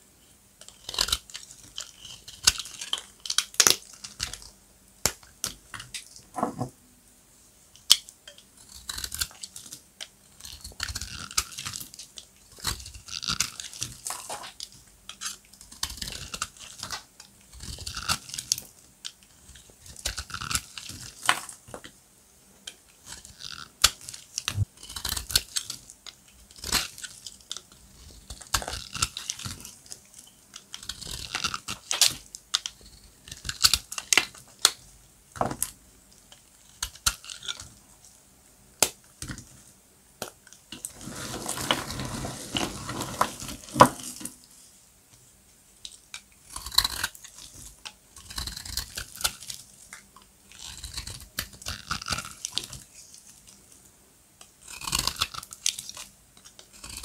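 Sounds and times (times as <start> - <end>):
hard soap crunching and snapping: 0.6 - 6.2, 7.8 - 22.0, 22.6 - 37.8, 38.8 - 39.6, 40.2 - 42.6, 45.8 - 53.6, 54.4 - 57.0.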